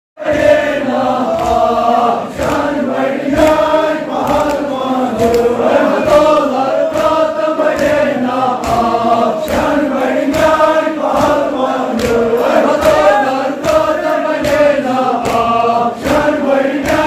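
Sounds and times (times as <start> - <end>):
men chanting in unison: 0.2 - 17.0
rhythmic chest-beating: 0.2 - 17.0.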